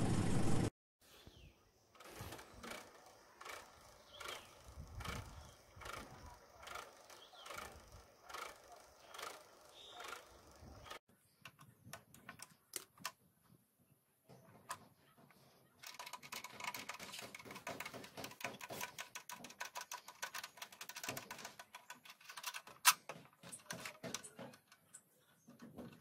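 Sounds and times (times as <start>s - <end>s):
clicking and rattling of hand work: 1.9s - 13.6s, 14.2s - 26.0s.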